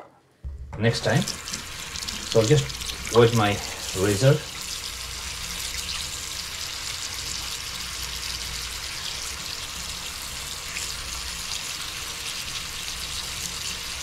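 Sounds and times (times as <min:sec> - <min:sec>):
faucet water splashing into sink: 0:00.5 - 0:14.0.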